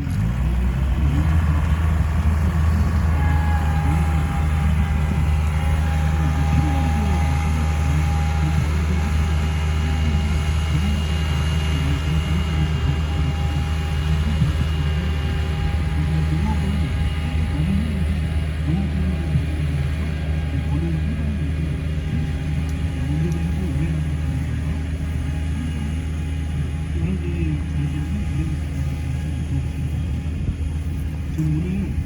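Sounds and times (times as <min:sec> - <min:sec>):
faint voices: 0:00.0 - 0:32.0
farm machine engine running: 0:00.0 - 0:32.0.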